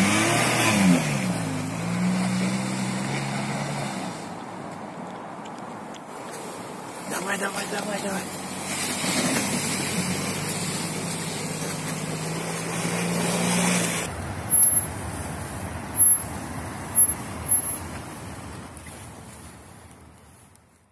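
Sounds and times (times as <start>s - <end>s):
car engine under load: 0.0s - 19.3s.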